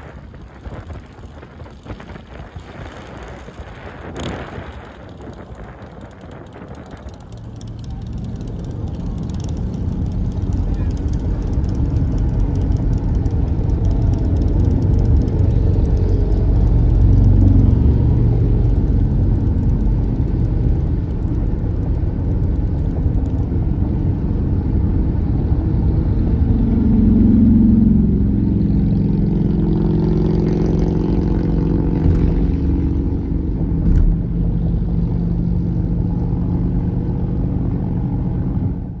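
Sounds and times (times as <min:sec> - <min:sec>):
motorcycle engines rumbling: 0:00.0 - 0:39.0
motorcycle engine revving: 0:01.0 - 0:21.2, 0:23.8 - 0:36.4.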